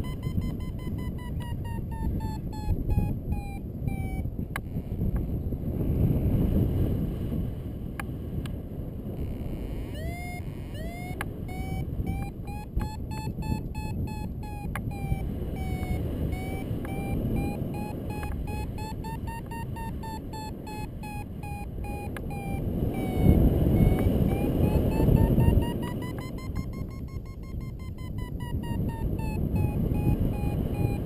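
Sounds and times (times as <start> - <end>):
variometer beeping: 0.0 - 5.3, 9.2 - 31.0
wind on microphone: 0.0 - 31.0.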